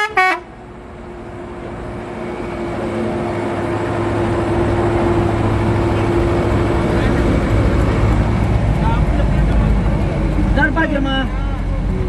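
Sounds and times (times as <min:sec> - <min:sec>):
minibus engine in cabin: 0:00.0 - 0:12.0.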